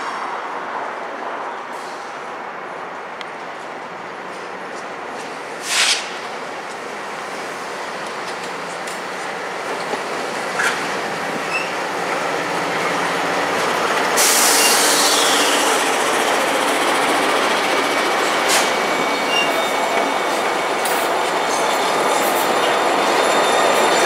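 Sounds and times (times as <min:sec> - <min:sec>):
diesel locomotive engines: 0:00.0 - 0:24.0
wheels on rail: 0:03.2 - 0:24.0.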